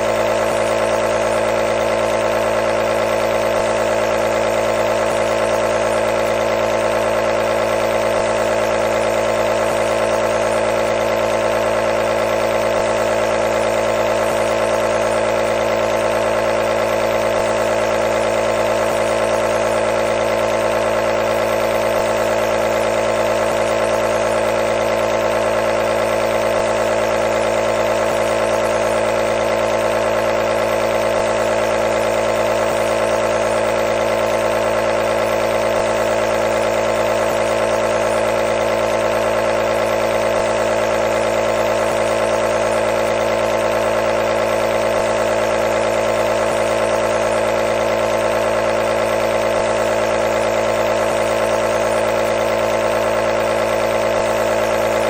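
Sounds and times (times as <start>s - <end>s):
compressor motor hum: 0.0s - 55.0s.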